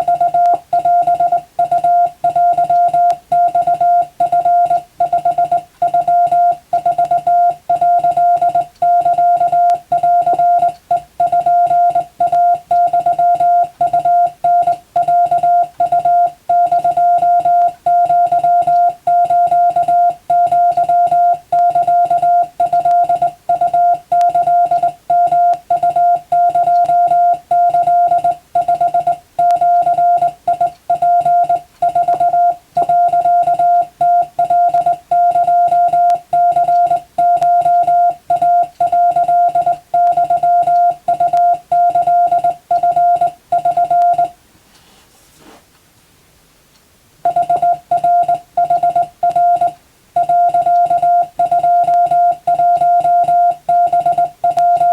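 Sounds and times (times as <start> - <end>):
morse code tone: 0.0 - 44.4, 47.2 - 54.9.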